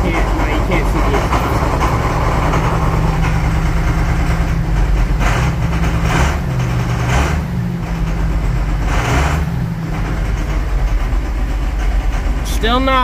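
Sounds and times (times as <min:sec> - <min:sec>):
diesel engine idling: 0:00.0 - 0:13.0
engine knock: 0:00.0 - 0:13.0.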